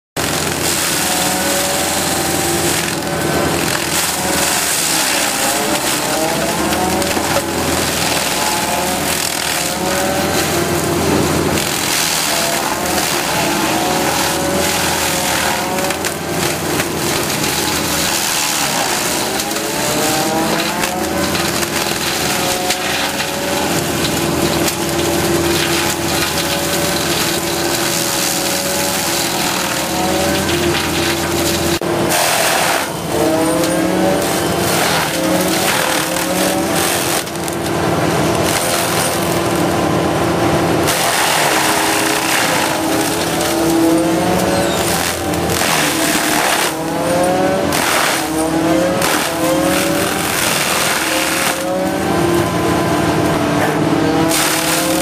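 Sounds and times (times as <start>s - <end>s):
stump cutter grinding: 0.0s - 55.0s
wood crunching as chipped: 0.2s - 55.0s.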